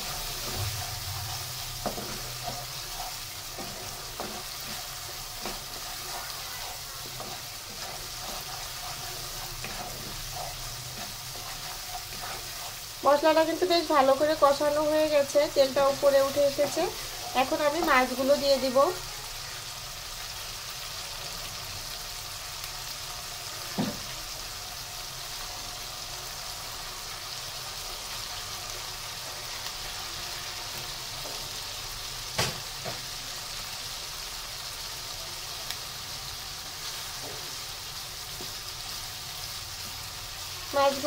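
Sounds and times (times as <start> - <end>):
fish frying in oil sizzling: 0.0 - 41.0.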